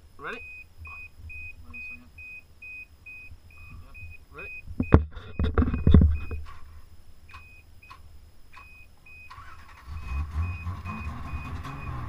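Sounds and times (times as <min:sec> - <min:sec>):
car engine rumbling: 0:00.0 - 0:12.0
car warning chime beeping: 0:00.2 - 0:06.4, 0:07.3 - 0:12.0
starter whine: 0:00.2 - 0:12.0.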